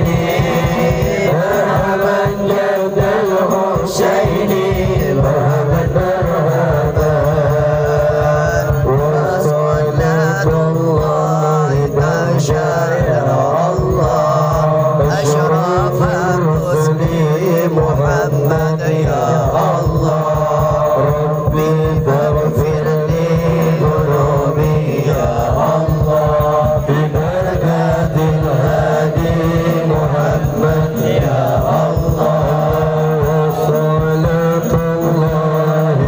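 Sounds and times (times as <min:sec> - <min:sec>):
group of men chanting: 0:00.0 - 0:36.0
man singing devotional song: 0:00.0 - 0:36.0.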